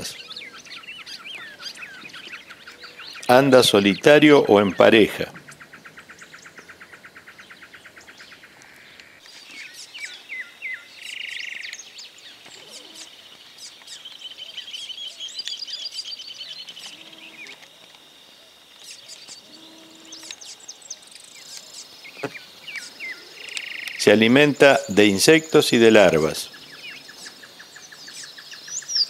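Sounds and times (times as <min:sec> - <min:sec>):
bird chirps: 0:00.0 - 0:29.0
pulsed bird notes: 0:00.0 - 0:29.0
rapid high bird trill: 0:00.0 - 0:29.0.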